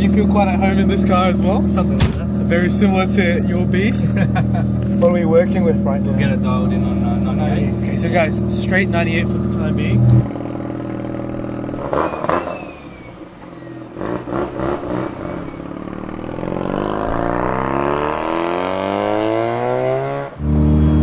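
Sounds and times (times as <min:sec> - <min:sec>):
car engine idling: 0:00.0 - 0:18.3
car accelerating: 0:00.0 - 0:21.0.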